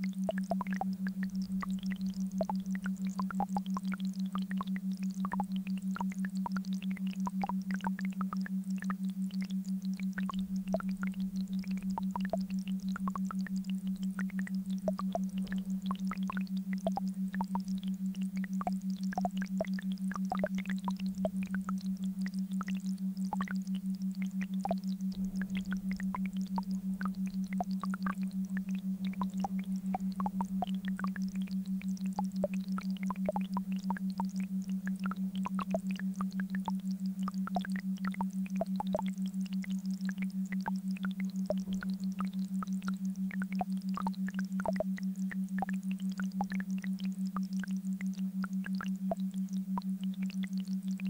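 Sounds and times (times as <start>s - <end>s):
pulsing low hum: 0.0s - 51.0s.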